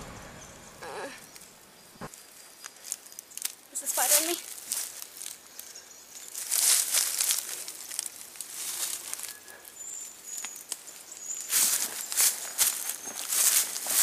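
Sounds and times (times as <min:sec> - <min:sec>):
hands rustling hair and clothing: 0:02.1 - 0:14.0.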